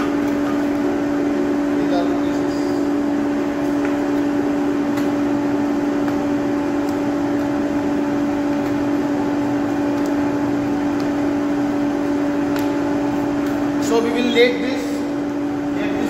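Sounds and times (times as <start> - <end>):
electric air blower humming: 0.0 - 16.0.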